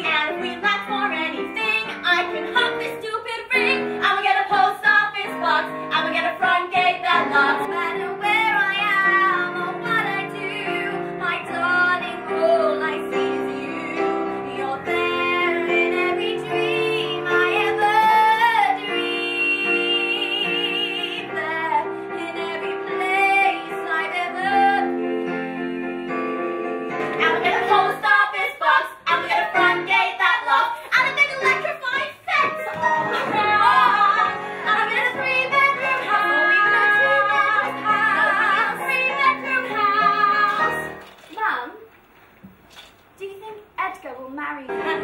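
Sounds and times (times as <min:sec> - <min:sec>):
women singing with vibrato: 0:00.0 - 0:41.0.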